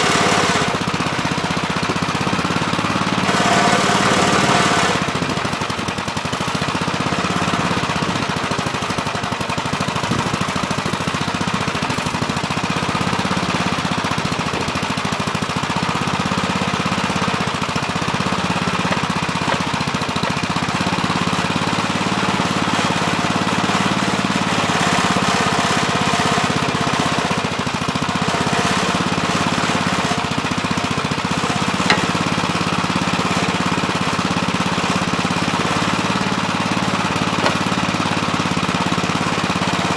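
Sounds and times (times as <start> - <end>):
backhoe engine digging: 0.0 - 39.9.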